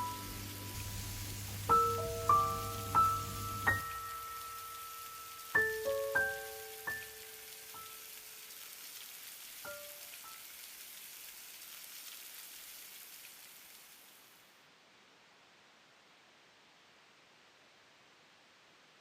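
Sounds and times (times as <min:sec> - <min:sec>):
soft rain-like hiss: 0:00.0 - 0:19.0.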